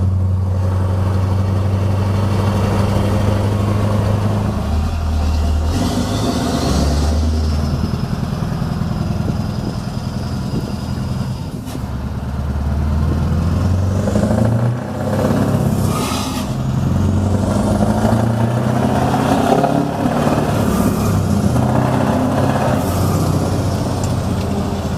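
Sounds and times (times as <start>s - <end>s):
diesel truck engine revving: 0.0s - 24.9s.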